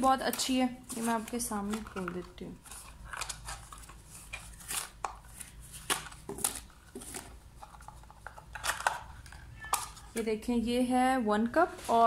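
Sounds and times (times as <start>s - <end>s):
plastic cups clicking and knocking: 0.0s - 5.2s, 5.8s - 10.3s.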